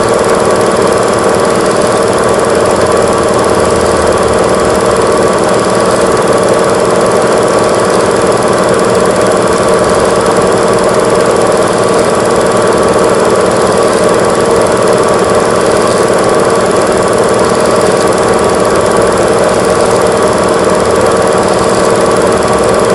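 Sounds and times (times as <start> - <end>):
film camera motor rattling: 4.4 - 22.9.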